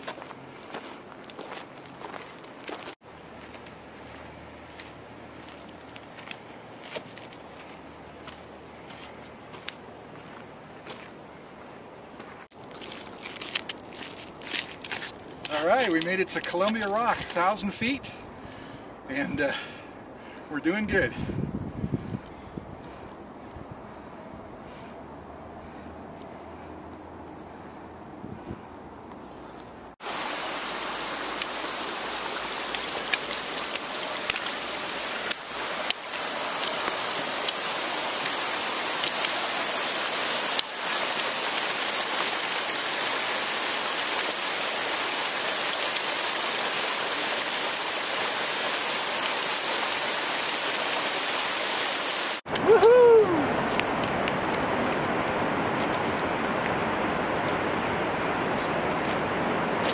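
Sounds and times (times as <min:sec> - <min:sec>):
stream running over rocks: 0:00.0 - 0:21.1, 0:29.2 - 0:59.9
dull outdoor hiss: 0:00.0 - 0:59.9.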